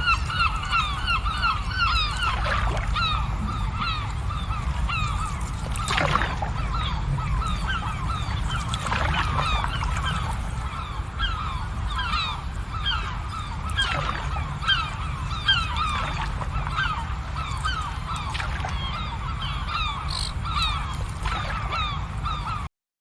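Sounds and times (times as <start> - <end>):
flock of birds calling: 0.0 - 22.7.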